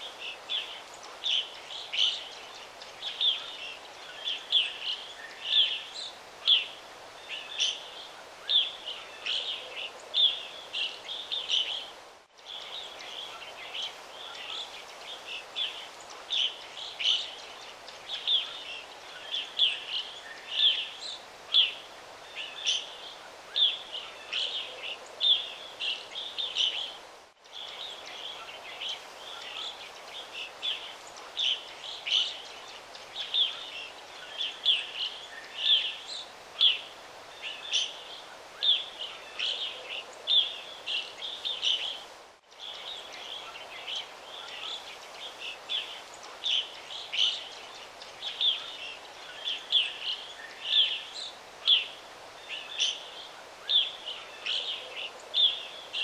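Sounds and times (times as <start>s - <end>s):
birds chirping: 0.0s - 56.0s
steady outdoor hiss: 0.0s - 56.0s.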